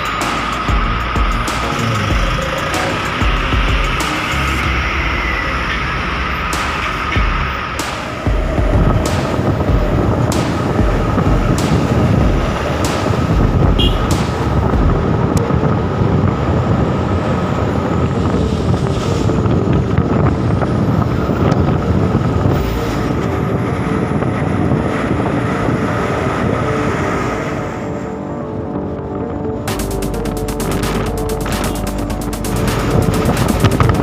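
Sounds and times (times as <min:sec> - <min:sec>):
road noise: 0:00.0 - 0:34.0
truck engine droning: 0:00.0 - 0:34.0.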